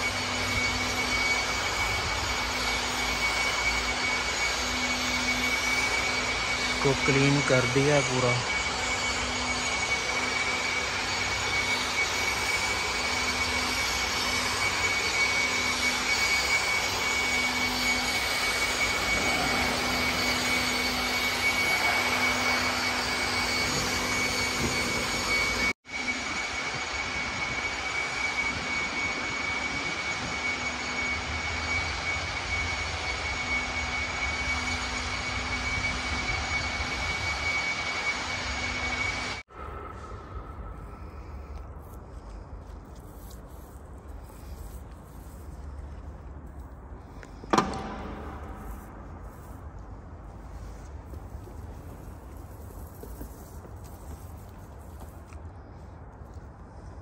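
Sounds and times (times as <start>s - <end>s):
electric air blower whining: 0.0s - 55.7s.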